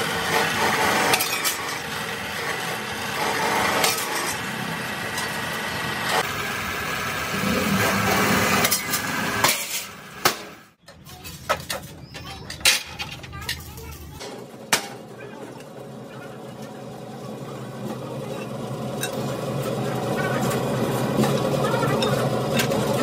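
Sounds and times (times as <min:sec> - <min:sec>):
sheet metal shear running: 0:00.0 - 0:23.0.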